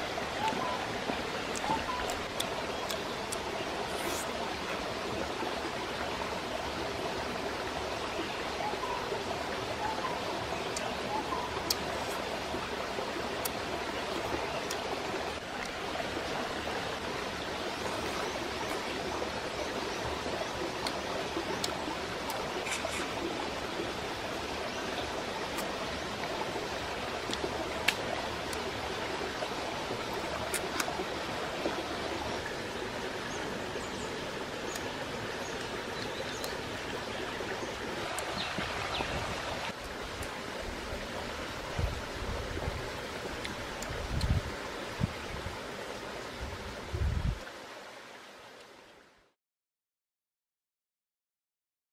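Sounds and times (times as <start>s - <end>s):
stream flowing over rocks: 0.0s - 49.3s.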